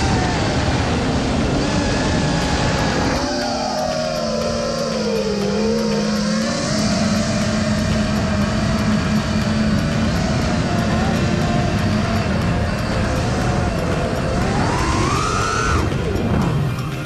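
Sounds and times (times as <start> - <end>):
drone motors whining: 0.0 - 17.0
wind rush: 0.0 - 17.0.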